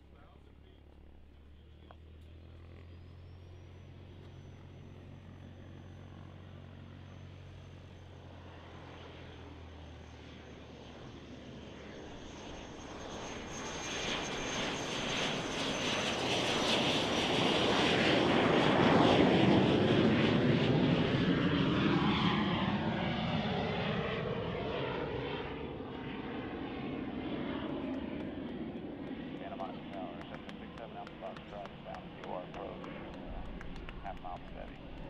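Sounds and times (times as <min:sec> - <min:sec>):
jet flying low past: 0:00.0 - 0:35.0.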